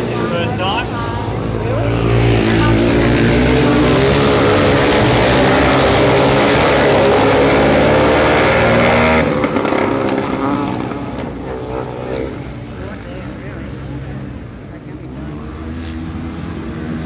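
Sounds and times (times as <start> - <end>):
quad bike engines revving: 0.0 - 17.0.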